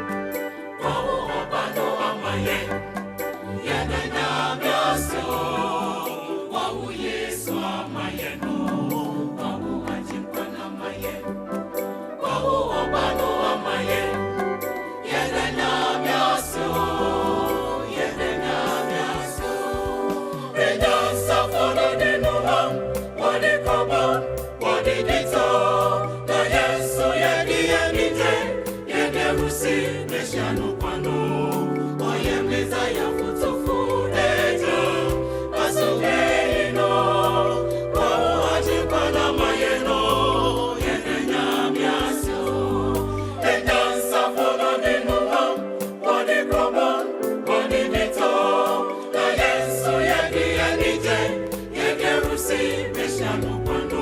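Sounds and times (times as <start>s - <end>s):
gospel choir singing: 0.0s - 54.0s
instrumental backing: 0.0s - 54.0s.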